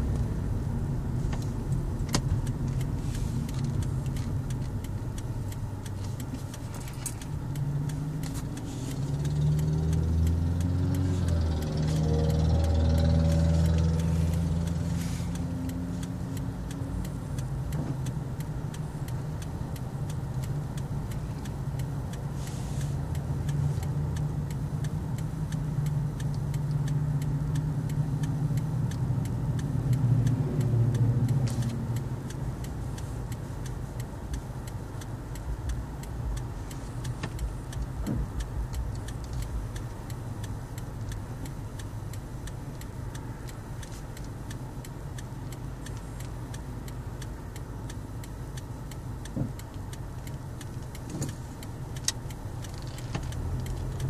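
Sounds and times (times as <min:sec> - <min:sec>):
car engine humming: 0:00.0 - 0:54.0.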